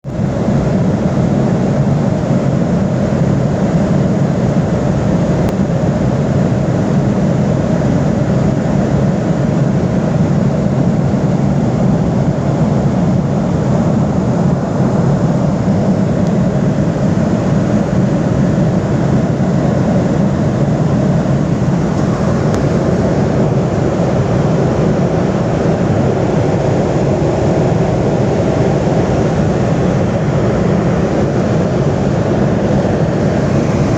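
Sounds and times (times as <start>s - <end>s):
airliner engines droning: 0.0s - 33.9s
rushing air in cabin: 0.0s - 33.9s.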